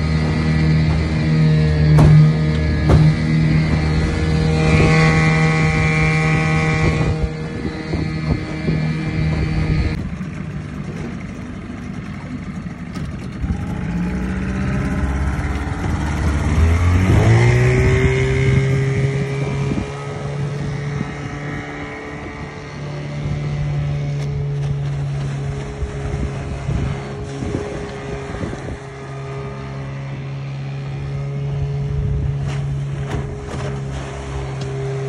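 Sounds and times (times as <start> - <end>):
outboard motor running: 0.0 - 35.0
water noise: 0.0 - 35.0
wind: 0.0 - 35.0.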